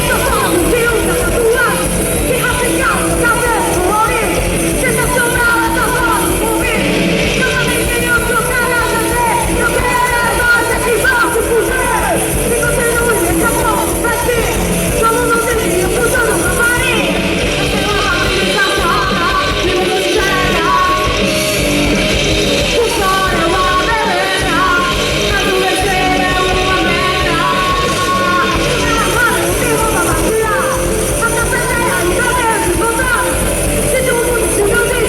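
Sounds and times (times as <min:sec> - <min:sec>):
live rock band playing: 0:00.0 - 0:35.0
person singing: 0:00.0 - 0:35.0.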